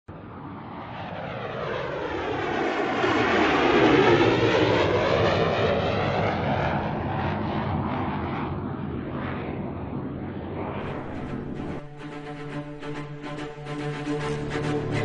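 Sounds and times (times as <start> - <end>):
jet aircraft flying past: 0.1 - 15.0.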